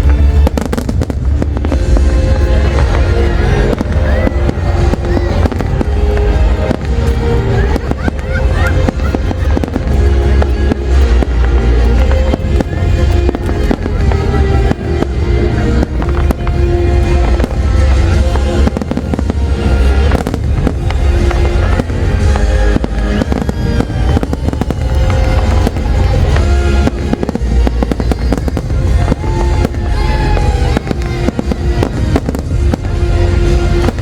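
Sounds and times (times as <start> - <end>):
fireworks bangs and crackles: 0.0 - 34.0
heavy low rumble: 0.0 - 34.0
music playing: 0.0 - 34.0.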